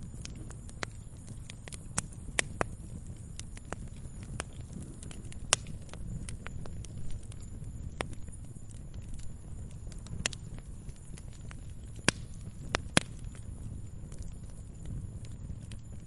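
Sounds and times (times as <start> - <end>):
fire crackling: 0.0 - 16.0
low fire rumble: 0.0 - 16.0.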